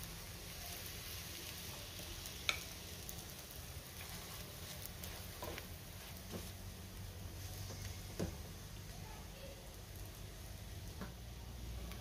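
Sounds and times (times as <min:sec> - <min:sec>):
flatbread sizzling in oil: 0:00.0 - 0:12.0.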